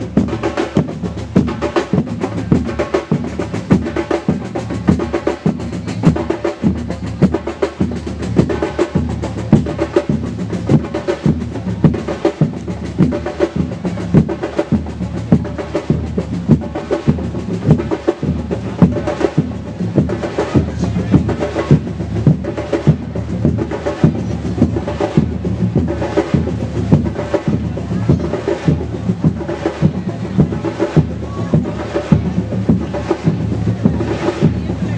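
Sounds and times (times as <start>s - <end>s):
percussion music with steady beat: 0.0s - 34.9s.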